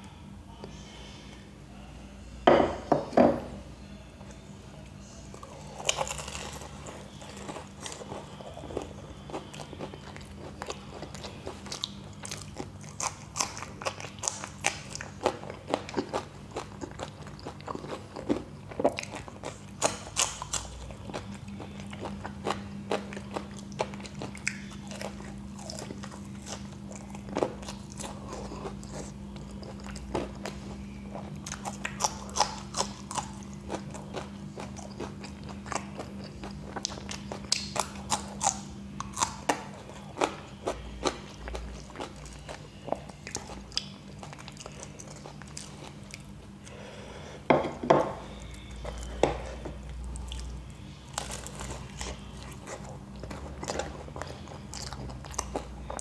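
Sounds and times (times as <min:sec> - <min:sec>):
crunching crisp pastry: 0:05.3 - 0:46.9, 0:48.2 - 0:56.0.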